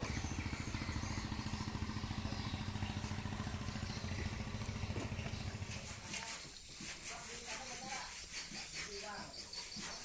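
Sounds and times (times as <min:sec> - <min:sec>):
small engine running: 0:00.0 - 0:09.9.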